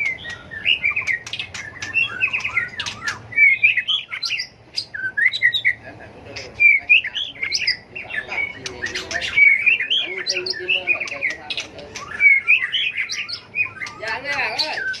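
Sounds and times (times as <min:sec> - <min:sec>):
bird singing whistled phrases: 0:00.0 - 0:05.8, 0:06.6 - 0:15.0.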